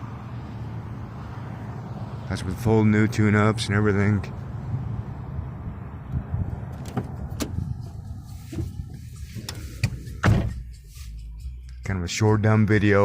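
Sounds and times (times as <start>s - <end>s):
car engine running: 0.0s - 11.6s.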